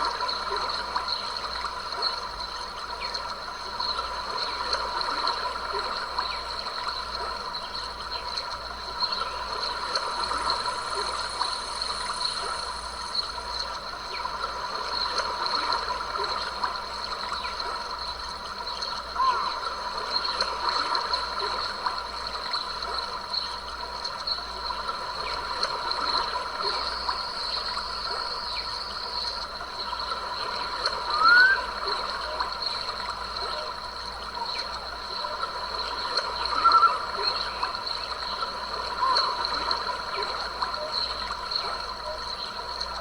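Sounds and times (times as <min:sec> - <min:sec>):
creek water trickling: 0:00.0 - 0:43.0.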